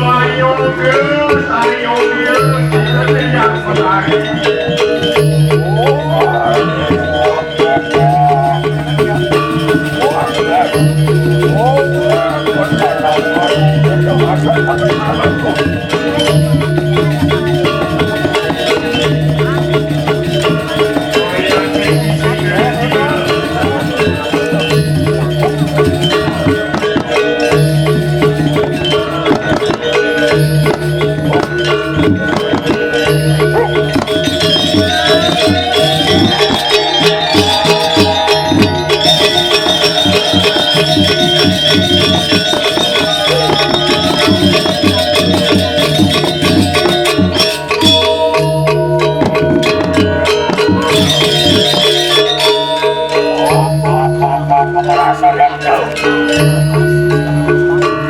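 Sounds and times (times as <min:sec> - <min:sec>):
gamelan music: 0:00.0 - 0:58.0
metallophones and gongs ringing: 0:00.0 - 0:58.0
quick percussion strokes: 0:00.0 - 0:58.0.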